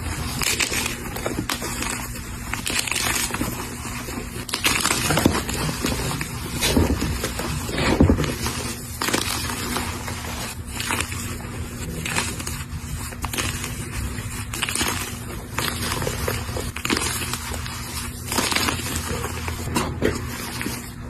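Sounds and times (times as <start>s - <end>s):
chalk block crunching: 0.0s - 21.0s.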